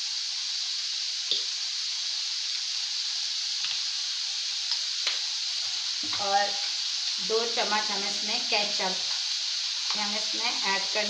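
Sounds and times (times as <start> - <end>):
vegetables sizzling in pan: 0.0 - 11.0.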